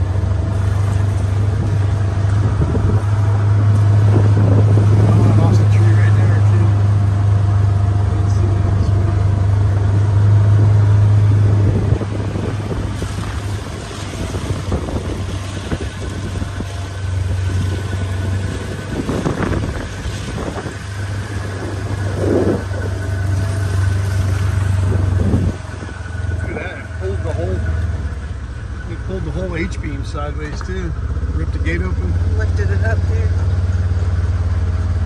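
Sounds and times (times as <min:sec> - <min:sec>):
vehicle moving slowly: 0:00.0 - 0:35.0.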